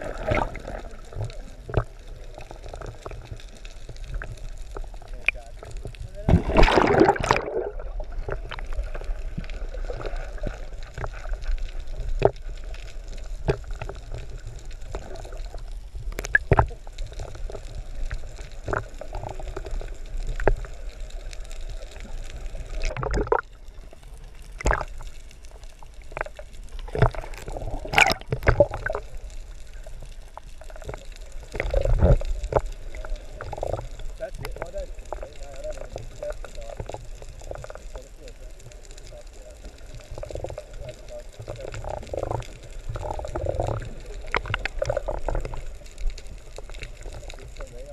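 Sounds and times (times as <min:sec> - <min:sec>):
muffled underwater gurgling: 0:00.0 - 0:47.9.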